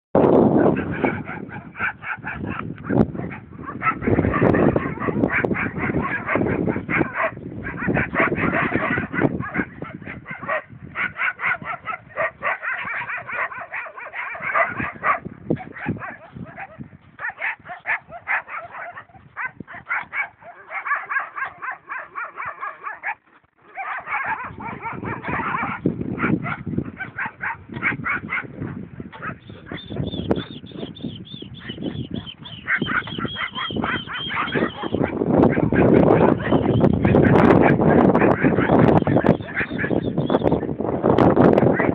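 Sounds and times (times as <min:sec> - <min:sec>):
dogs growling barking and yelping: 0:00.6 - 0:40.4, 0:41.6 - 0:41.9.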